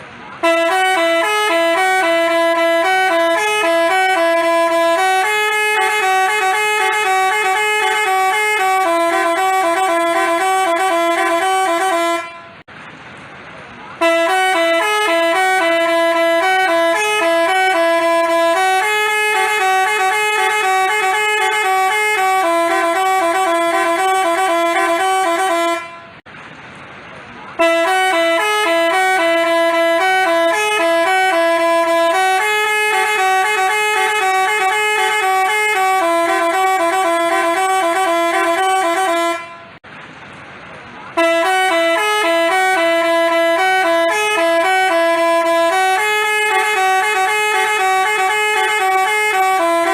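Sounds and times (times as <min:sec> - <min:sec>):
multi-tone horn melody: 0:00.3 - 0:12.7, 0:14.0 - 0:26.2, 0:27.6 - 0:39.8, 0:41.2 - 0:49.9.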